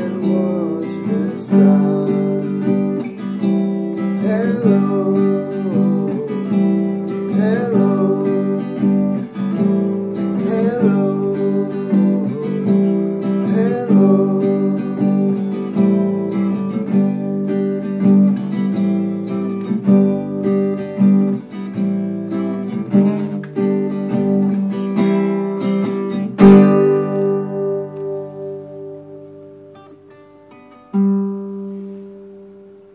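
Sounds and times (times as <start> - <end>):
guitar strumming chords: 0.0 - 32.9.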